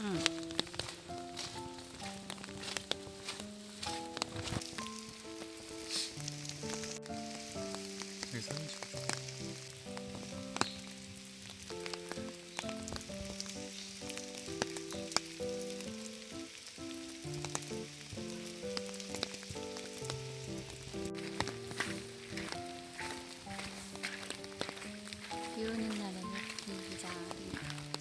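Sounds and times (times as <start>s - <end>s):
crackling hiss: 0.0s - 28.0s
plinking music melody: 0.0s - 28.0s.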